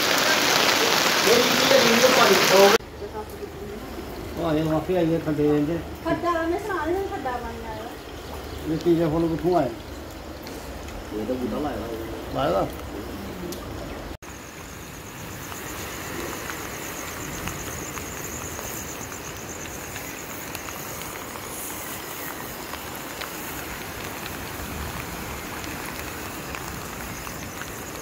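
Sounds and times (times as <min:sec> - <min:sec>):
rain falling on water: 0:00.0 - 0:28.0.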